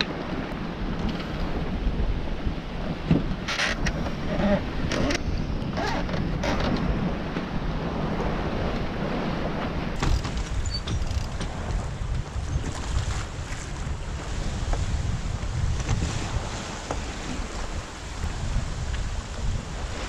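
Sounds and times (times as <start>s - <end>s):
sea rushing past hull: 0.0s - 20.0s
wind buffeting microphone: 0.0s - 20.0s.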